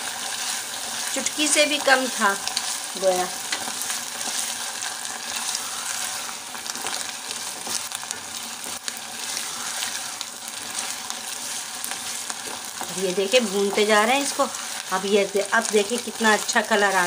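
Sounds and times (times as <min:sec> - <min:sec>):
food sizzling in a saucepan: 0:00.0 - 0:17.0
wooden spatula scraping: 0:00.4 - 0:14.9.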